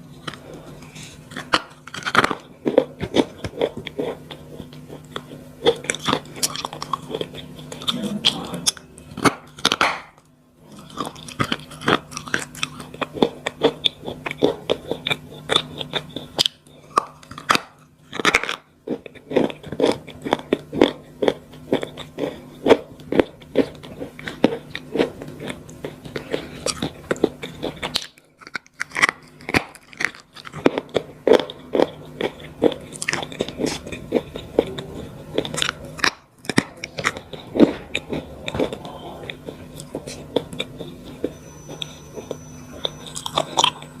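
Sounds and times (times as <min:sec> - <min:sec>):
dry crunching of chewing: 0:00.0 - 0:44.0
faint steady hum: 0:00.0 - 0:44.0.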